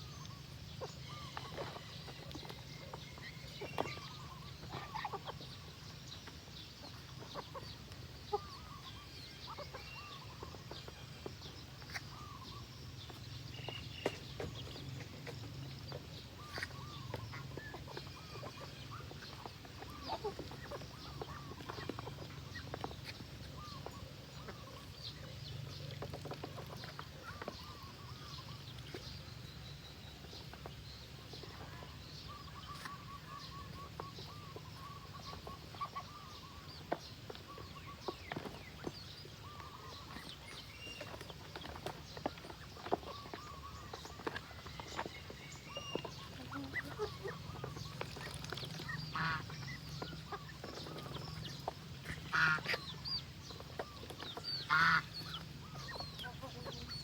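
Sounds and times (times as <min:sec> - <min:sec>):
poultry calling: 0:00.0 - 0:12.7, 0:14.0 - 0:29.1, 0:31.3 - 0:57.0.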